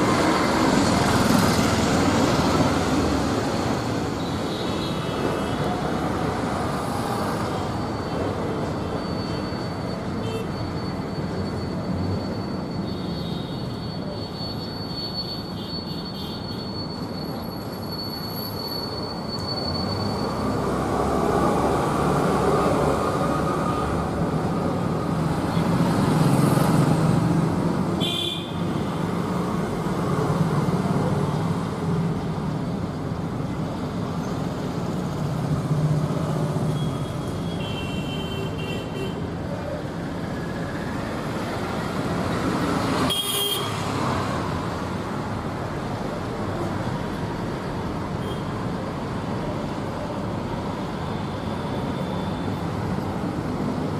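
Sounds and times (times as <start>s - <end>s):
road traffic hum: 0.0s - 53.9s.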